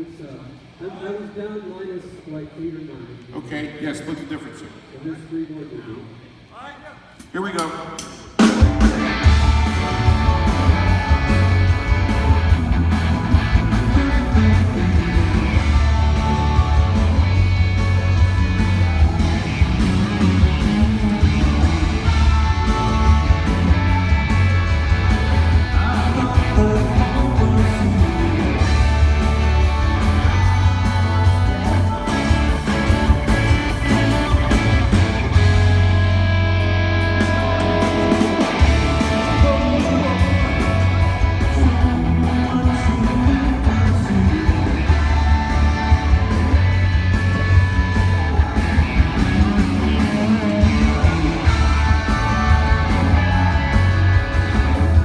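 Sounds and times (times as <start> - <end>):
rock band playing: 8.0 - 55.0
electric guitar: 8.4 - 55.0.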